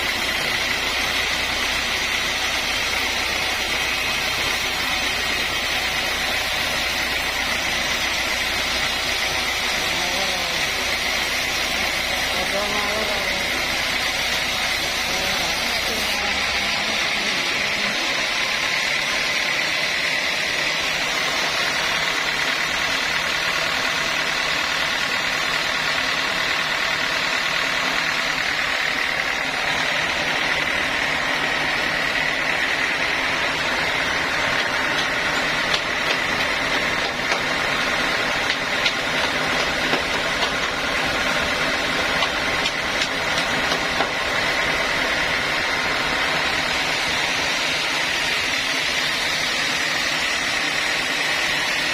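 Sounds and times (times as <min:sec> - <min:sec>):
sawmill saw whining: 0:00.0 - 0:51.9.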